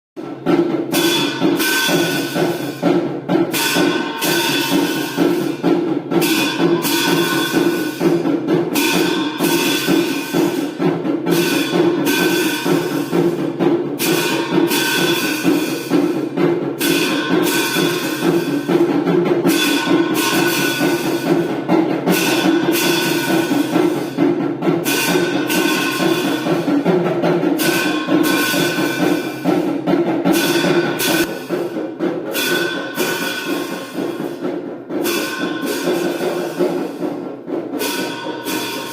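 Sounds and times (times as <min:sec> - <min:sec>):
fast continuous drumming: 0:00.2 - 0:38.9
bell or cymbals ringing: 0:00.9 - 0:02.9, 0:03.5 - 0:24.2, 0:24.8 - 0:26.9, 0:27.6 - 0:37.2, 0:37.8 - 0:38.9.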